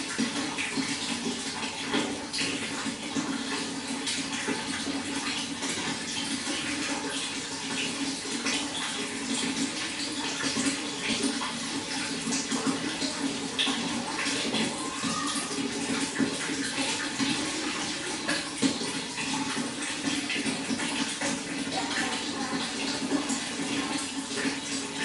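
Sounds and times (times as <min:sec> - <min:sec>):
water running and splashing: 0:00.0 - 0:25.0.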